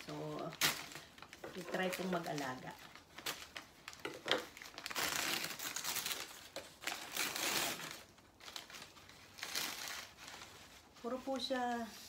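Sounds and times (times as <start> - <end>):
paper wrapping rustling: 0.0 - 12.0.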